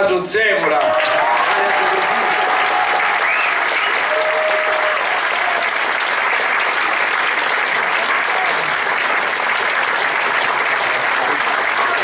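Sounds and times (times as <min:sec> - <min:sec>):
audience applause: 0:00.6 - 0:12.0.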